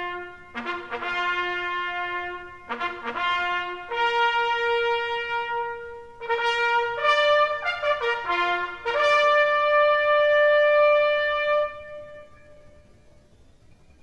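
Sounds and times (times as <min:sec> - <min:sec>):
bugle call: 0:00.0 - 0:13.0.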